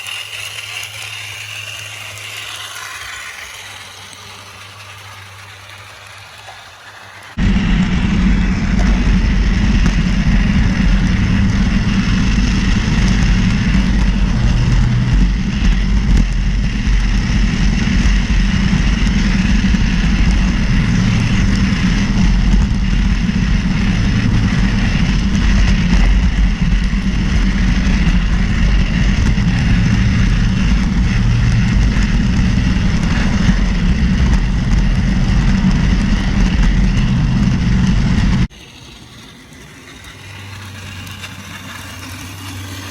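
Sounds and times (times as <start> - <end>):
model train motor humming: 0.0 - 42.9.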